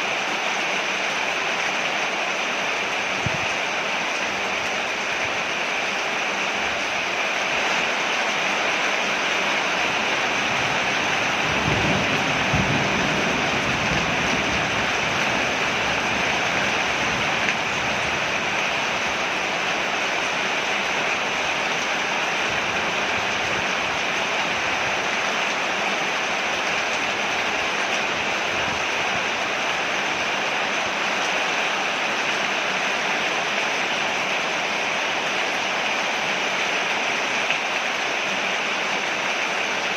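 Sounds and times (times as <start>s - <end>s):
rain falling on porch: 0.0s - 39.9s.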